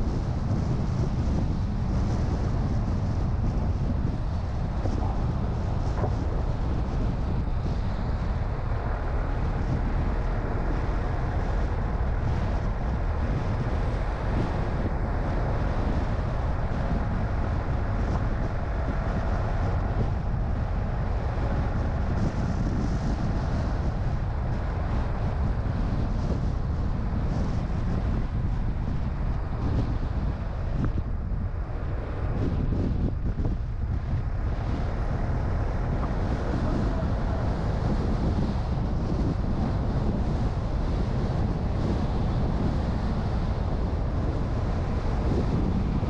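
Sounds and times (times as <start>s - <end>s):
car road and engine rumble: 0.0s - 46.0s
wind noise: 0.0s - 46.0s.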